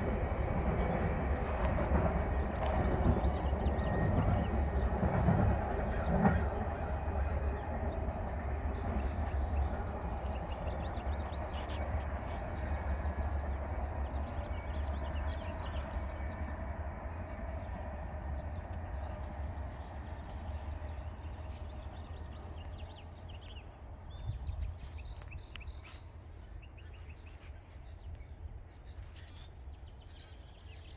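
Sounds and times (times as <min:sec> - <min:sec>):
freight train rumble: 0:00.0 - 0:30.9
birds chirping: 0:00.7 - 0:30.9.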